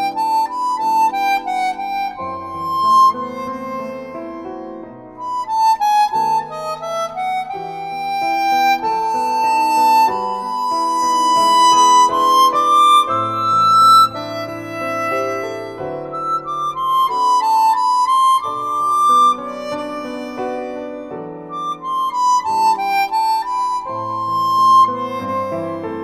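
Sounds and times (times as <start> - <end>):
harmonica melody: 0.0 - 26.0.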